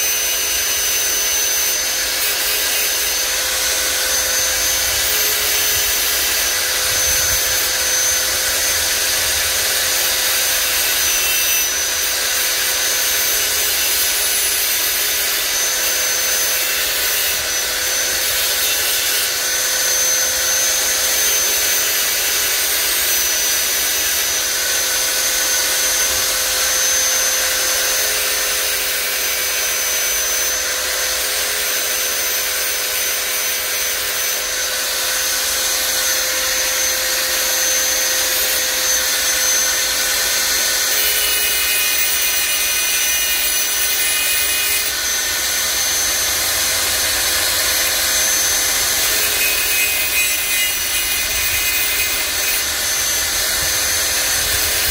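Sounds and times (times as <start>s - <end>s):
mini grinder whining: 0.0s - 54.9s.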